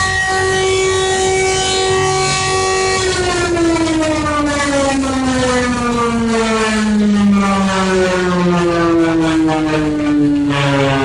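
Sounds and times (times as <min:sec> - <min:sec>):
falling siren alarm tone: 0:00.0 - 0:11.0
higher falling siren tone: 0:00.0 - 0:11.0.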